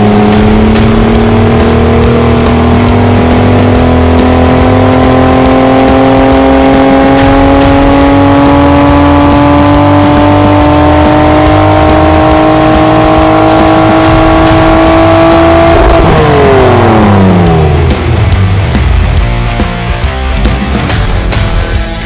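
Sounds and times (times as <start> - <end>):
dirt bike engine revving: 0.0 - 19.2
rock music with steady beat: 0.0 - 22.0.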